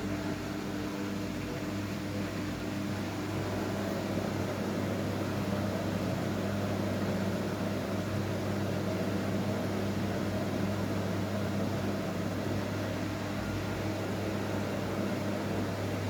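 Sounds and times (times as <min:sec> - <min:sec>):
washing machine running: 0:00.0 - 0:16.0.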